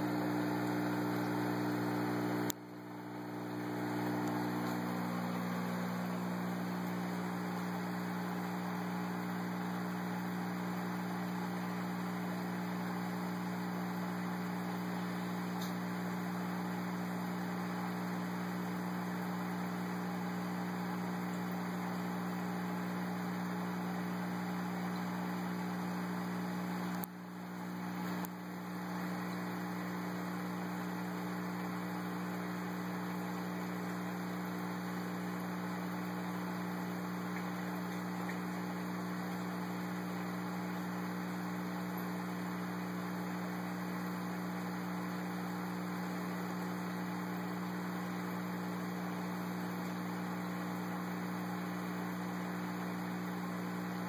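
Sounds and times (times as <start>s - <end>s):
electrical hum of aquarium equipment: 0.0s - 54.0s.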